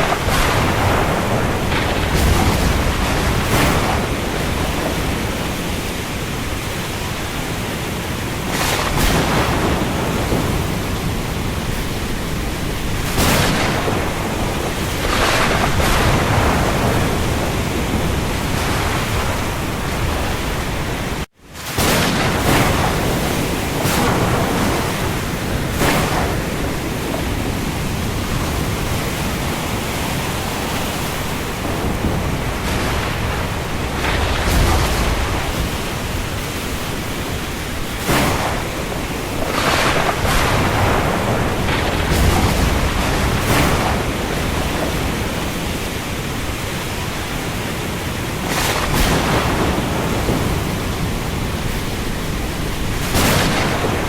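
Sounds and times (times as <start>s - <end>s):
deep rumble of water: 0.0s - 21.3s, 21.9s - 54.0s
heavy rain on sea: 0.0s - 54.0s.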